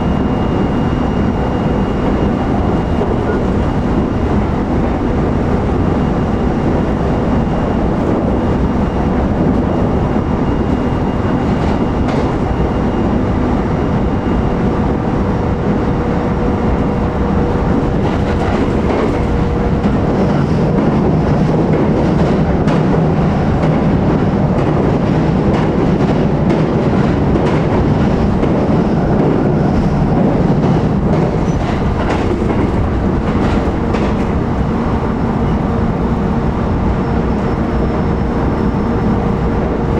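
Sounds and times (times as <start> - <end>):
train wheels rumbling on rail: 0.0 - 39.9
clacks over rail joints: 1.4 - 39.9.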